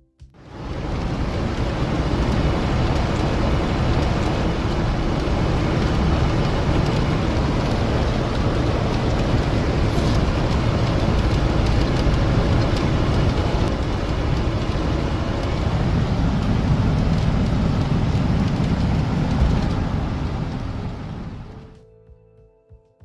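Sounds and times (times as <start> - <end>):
loud low rumbling: 0.4 - 21.8.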